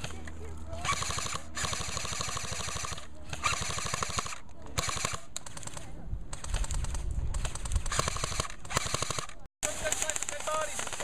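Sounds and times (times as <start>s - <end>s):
airsoft guns firing bursts: 0.8s - 11.0s.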